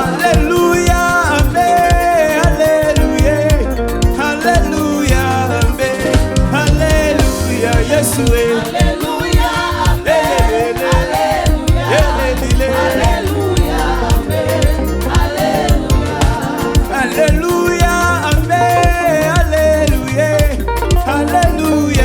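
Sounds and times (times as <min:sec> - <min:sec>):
band with bass and drums: 0:00.0 - 0:22.0
gospel singers: 0:00.0 - 0:22.0.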